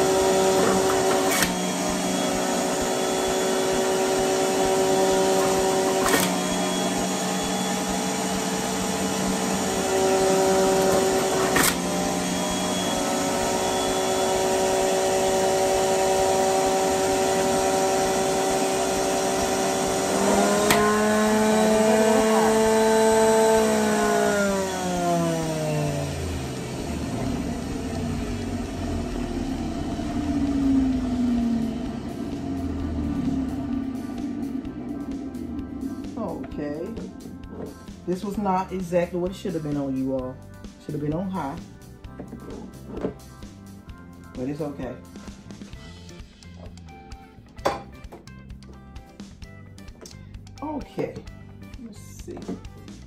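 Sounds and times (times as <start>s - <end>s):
juicer motor running: 0.0s - 43.8s.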